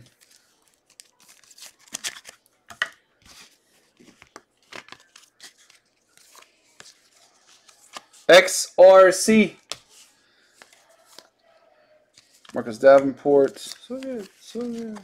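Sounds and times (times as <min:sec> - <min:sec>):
cards and plastic sleeve rustling: 0:00.0 - 0:08.3, 0:09.3 - 0:11.3, 0:12.1 - 0:15.0.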